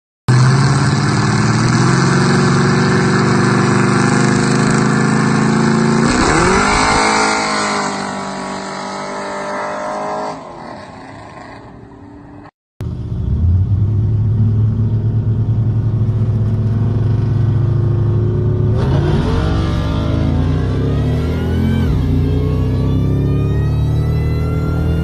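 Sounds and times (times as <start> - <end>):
racing engines revving: 0.3 - 12.4, 16.7 - 25.0.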